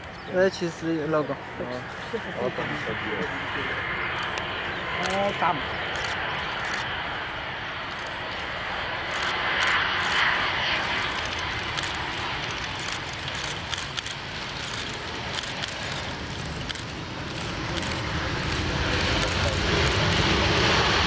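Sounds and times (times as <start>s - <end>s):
jet engines of landing airliner: 0.0s - 21.0s.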